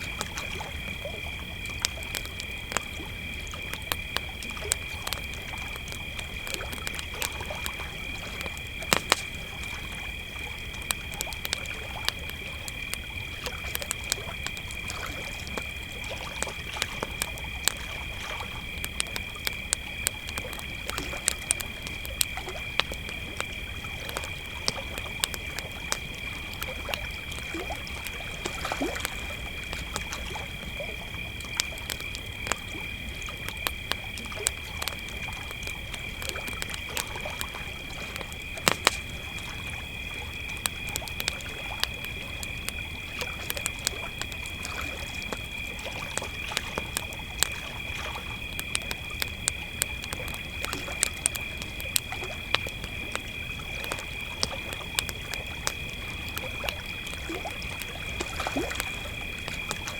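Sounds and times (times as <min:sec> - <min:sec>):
campfire crackling: 0:00.0 - 0:59.9
crickets chirping: 0:00.0 - 0:59.9.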